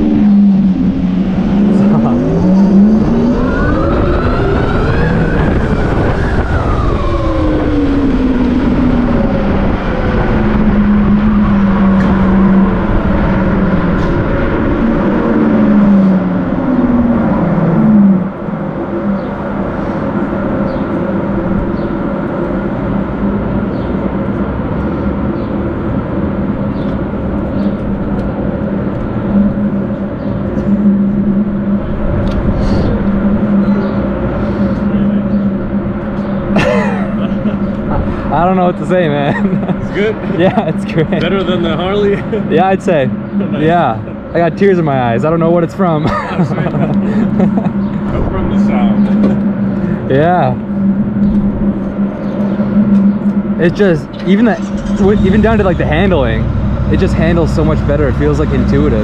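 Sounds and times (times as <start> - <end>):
electric motorcycle drive whine: 0.0 - 59.0
road and wind noise: 0.0 - 59.0.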